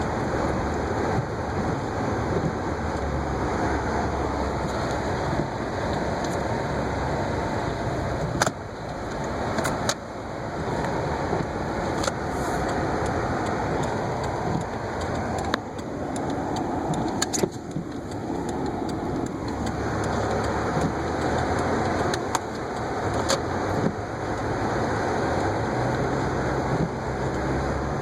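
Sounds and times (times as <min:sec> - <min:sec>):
engine and tyre noise on snow: 0:00.0 - 0:28.0.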